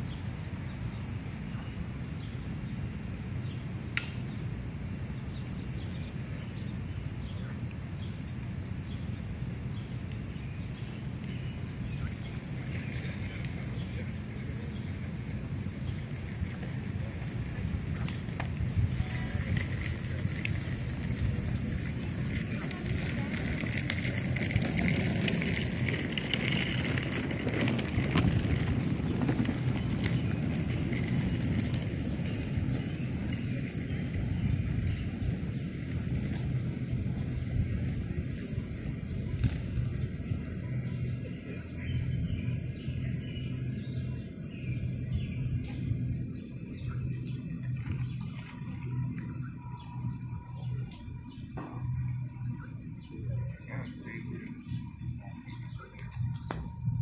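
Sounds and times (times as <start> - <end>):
city street rumble: 0.0 - 57.0
small birds chirping: 0.0 - 57.0.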